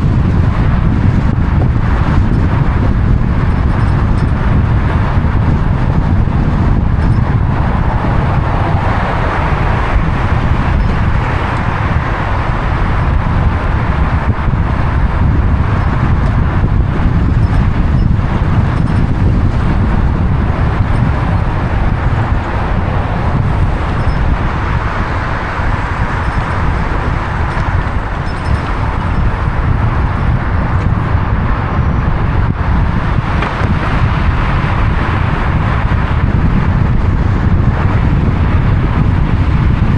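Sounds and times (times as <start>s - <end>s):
car tyres and engine rumble: 0.0s - 39.9s
wind noise: 0.0s - 39.9s.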